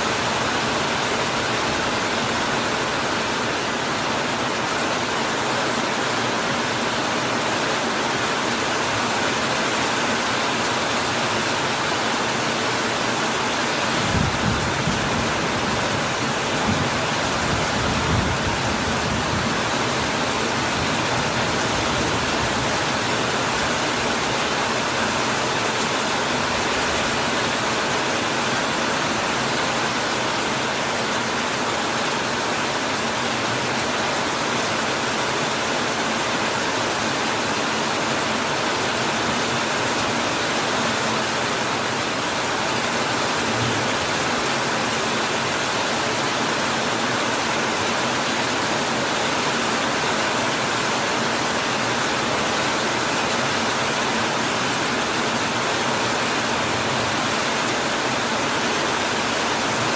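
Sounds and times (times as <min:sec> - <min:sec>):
heavy rain on metal roof and leaves: 0:00.0 - 0:59.9.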